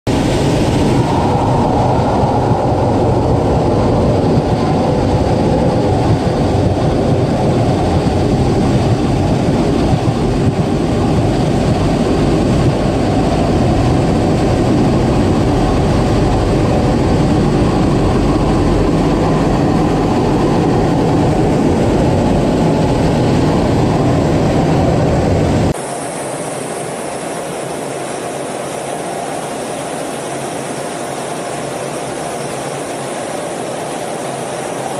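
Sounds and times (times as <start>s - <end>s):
jet engine rumble in cockpit: 0.1s - 34.9s.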